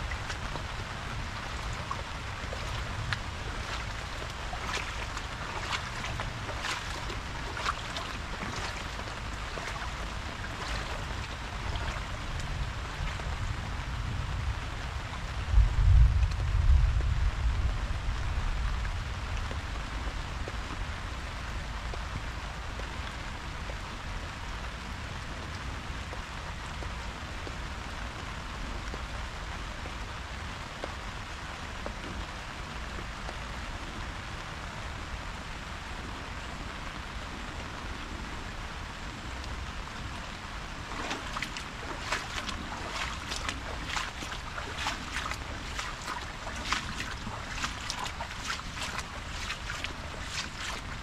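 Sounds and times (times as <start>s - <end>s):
steady rain hiss: 0.0s - 47.5s.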